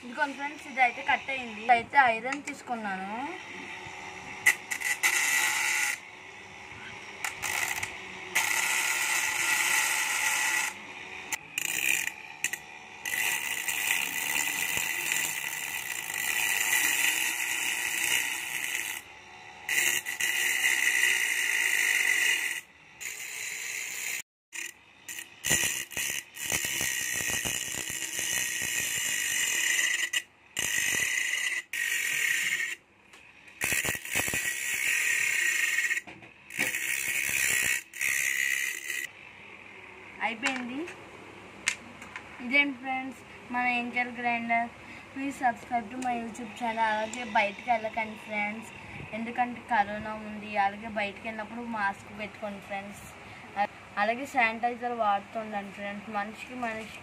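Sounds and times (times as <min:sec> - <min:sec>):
angle grinder cutting metal rod: 0:00.0 - 0:39.1, 0:45.2 - 0:52.8.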